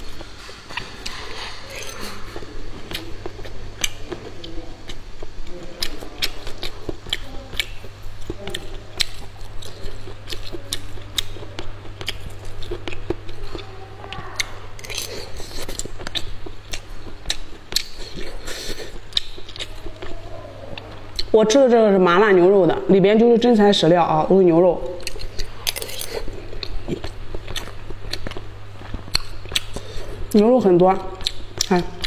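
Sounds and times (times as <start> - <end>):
person chewing: 0.0 - 21.4, 24.8 - 32.0
steady low hum: 0.0 - 32.0.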